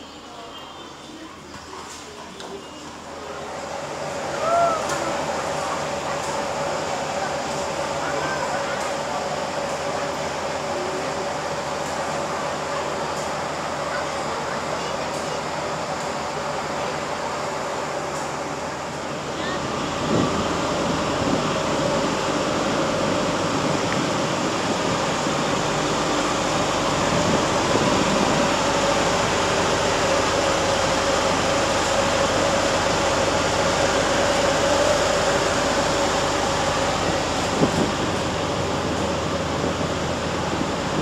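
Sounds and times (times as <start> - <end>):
standing train machinery humming: 0.0 - 41.0.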